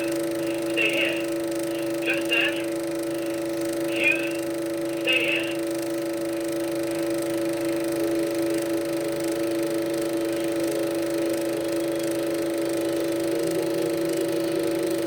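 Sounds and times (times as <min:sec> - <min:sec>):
film projector whirring: 0:00.0 - 0:15.0.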